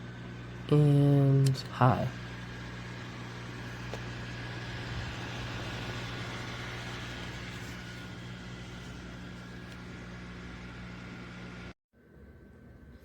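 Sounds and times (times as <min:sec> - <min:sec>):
neck fan whirring: 0:00.0 - 0:13.0.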